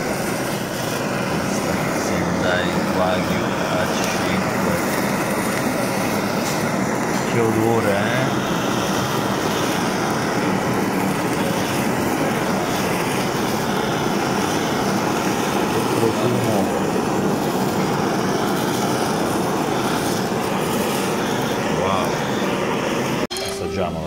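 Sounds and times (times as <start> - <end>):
blowtorch flame: 0.0 - 23.3.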